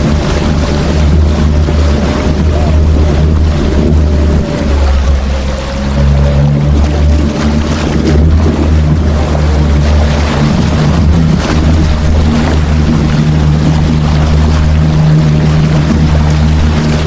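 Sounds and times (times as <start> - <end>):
small boat motor: 0.0 - 17.0
water rushing and splashing: 0.0 - 17.0.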